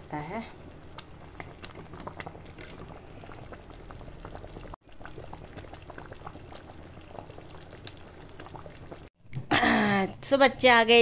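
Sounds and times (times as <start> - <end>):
curry boiling in a pot: 0.0 - 9.2.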